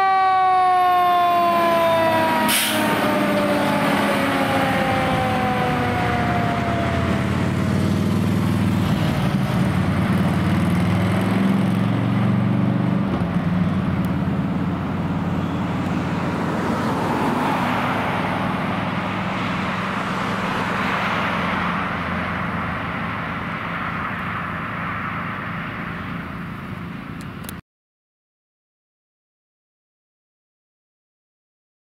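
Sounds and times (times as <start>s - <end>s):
fire engine siren winding down: 0.0s - 26.8s
heavy engine humming: 0.0s - 27.6s
road and traffic noise: 0.0s - 27.6s.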